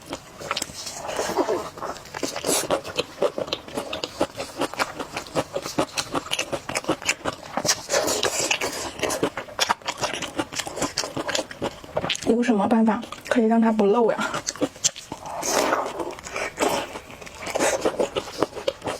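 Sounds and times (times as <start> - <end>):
chewing crunchy food: 0.0 - 18.9.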